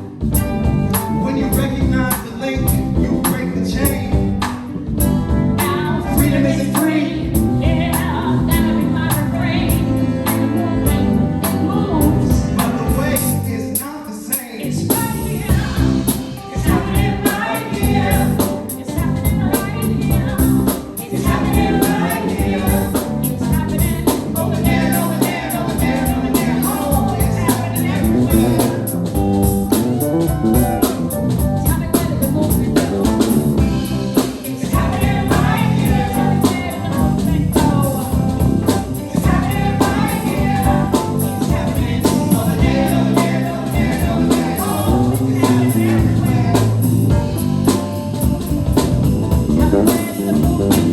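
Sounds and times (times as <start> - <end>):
drums steady beat: 0.0 - 13.9, 14.8 - 50.9
live band playing: 0.0 - 50.9
voices singing gospel: 0.0 - 50.9.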